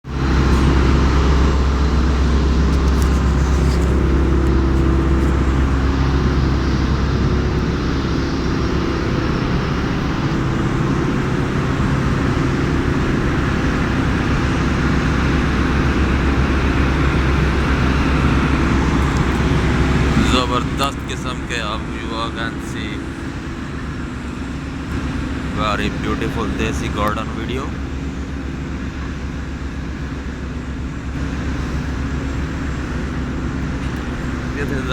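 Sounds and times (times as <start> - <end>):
low rumble with hiss: 0.1 - 34.9.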